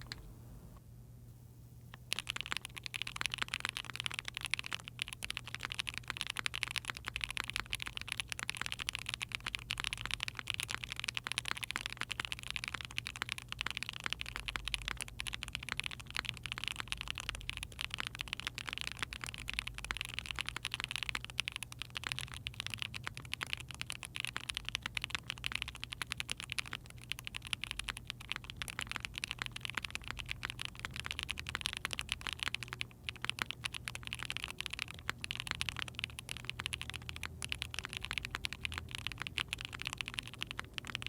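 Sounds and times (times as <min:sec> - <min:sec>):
fast typing on mechanical keyboard: 0:00.0 - 0:00.3, 0:02.0 - 0:41.0.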